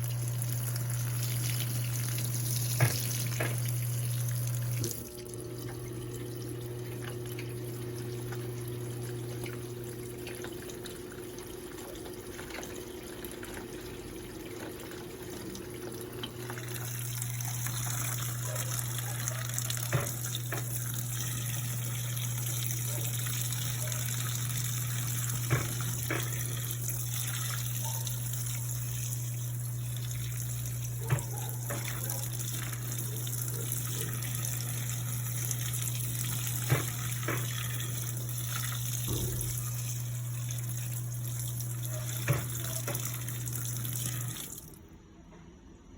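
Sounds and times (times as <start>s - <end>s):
water running into washing machine: 0.0s - 44.9s
washing machine hum: 0.0s - 45.9s.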